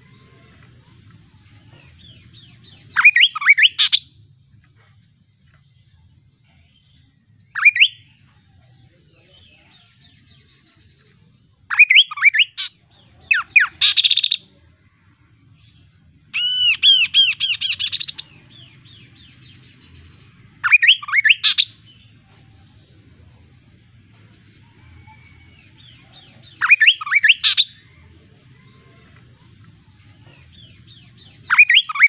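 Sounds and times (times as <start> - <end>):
bird chirping song: 0.0 - 32.0.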